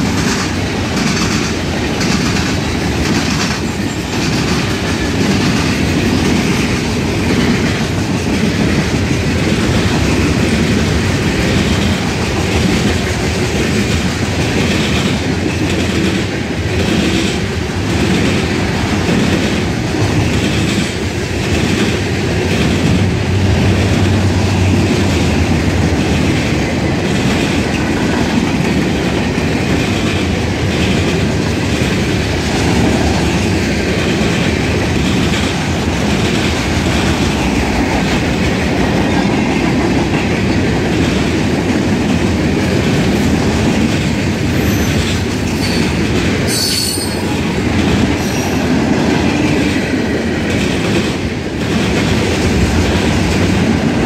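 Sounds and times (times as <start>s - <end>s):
freight train rumbling past: 0.0s - 54.0s
wheels clacking over rail joints: 0.0s - 54.0s.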